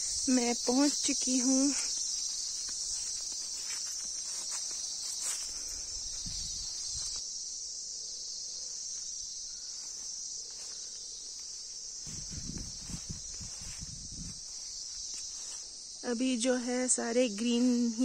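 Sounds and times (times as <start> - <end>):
footsteps through grass: 0.0 - 7.2, 8.7 - 16.0
insects chirring: 0.0 - 18.0.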